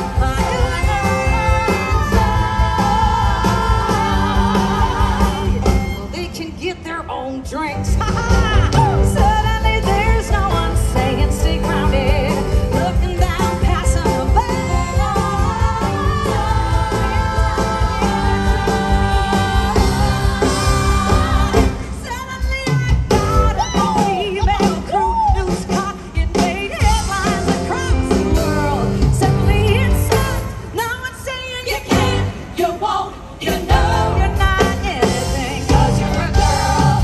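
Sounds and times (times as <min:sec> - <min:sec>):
live band: 0:00.0 - 0:37.0
woman singing: 0:00.0 - 0:37.0.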